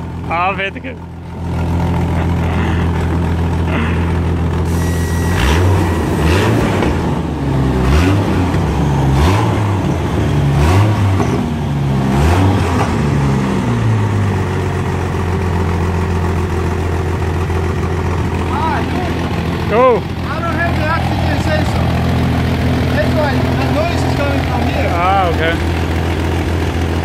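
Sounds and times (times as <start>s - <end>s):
engine revving: 0.0s - 16.1s, 18.2s - 27.0s
car engine idling: 0.0s - 27.0s.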